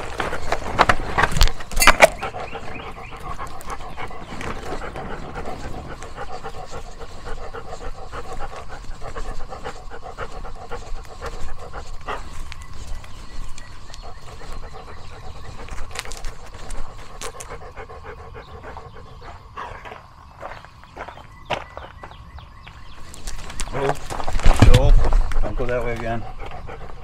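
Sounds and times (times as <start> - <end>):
dog panting: 0.0 - 20.5, 23.0 - 27.0.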